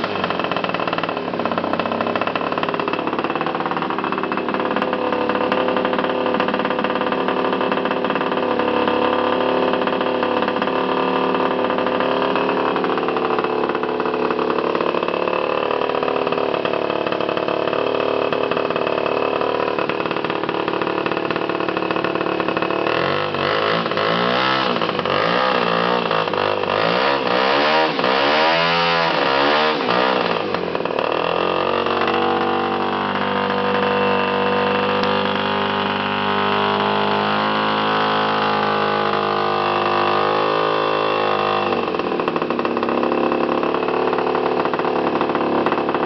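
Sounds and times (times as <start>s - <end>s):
model aircraft engine running: 0.0s - 46.0s.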